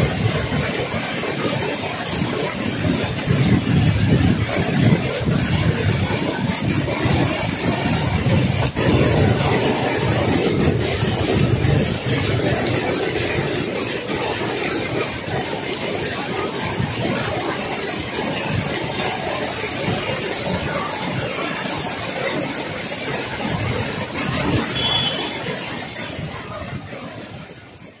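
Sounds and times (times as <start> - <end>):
floodwater rushing: 0.0 - 28.0
heavy rain: 0.0 - 28.0
vehicles driving through water: 0.0 - 28.0.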